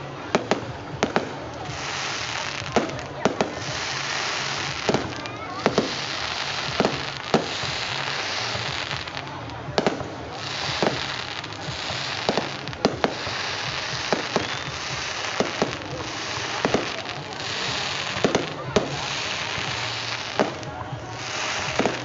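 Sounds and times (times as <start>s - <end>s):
constant hiss: 0.0s - 22.0s
fireworks banging: 0.0s - 22.0s.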